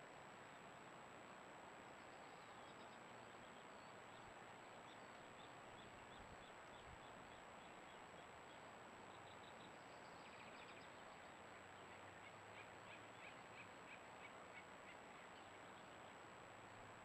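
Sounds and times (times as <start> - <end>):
faint bird calls: 2.0 - 16.2.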